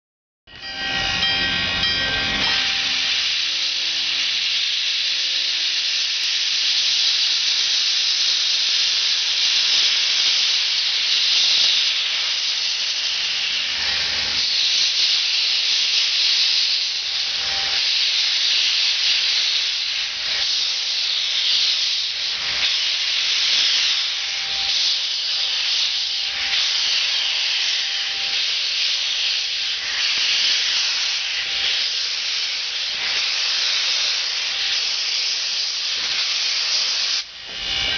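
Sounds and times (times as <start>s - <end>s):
steam hissing from locomotive: 0.5s - 37.9s.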